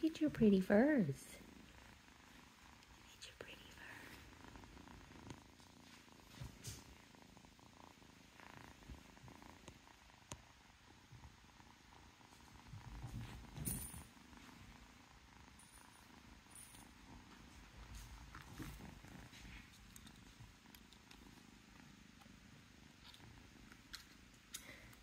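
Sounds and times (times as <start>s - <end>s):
kitten purring: 0.0s - 25.0s.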